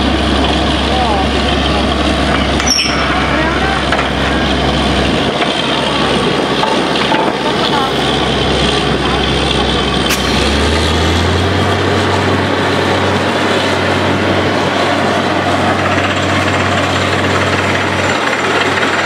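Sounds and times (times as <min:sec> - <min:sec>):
drilling rig running: 0:00.0 - 0:19.0
low engine hum: 0:00.0 - 0:19.0.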